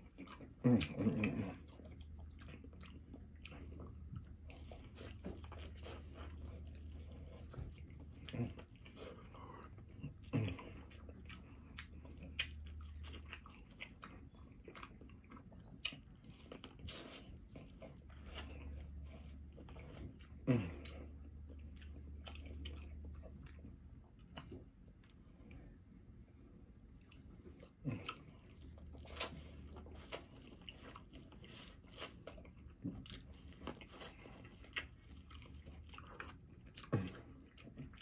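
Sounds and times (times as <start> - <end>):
chewing corn on the cob: 0.0 - 25.8, 26.8 - 38.0
low steady hum: 0.0 - 38.0.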